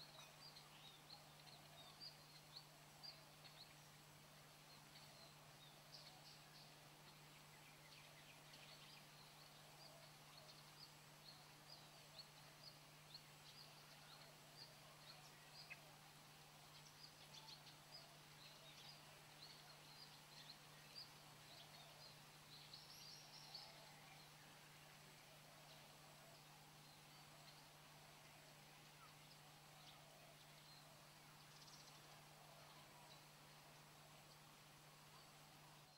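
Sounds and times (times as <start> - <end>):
faint bird chirps: 0.0 - 35.9.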